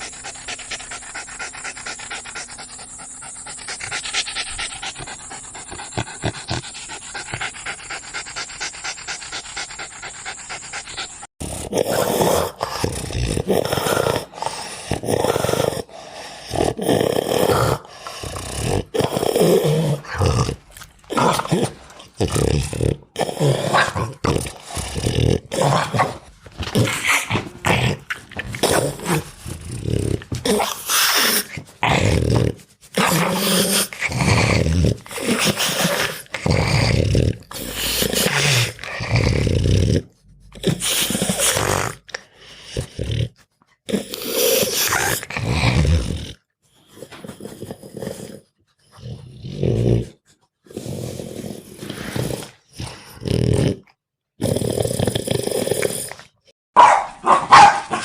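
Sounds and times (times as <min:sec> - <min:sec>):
dogs growling: 0:00.0 - 0:56.5.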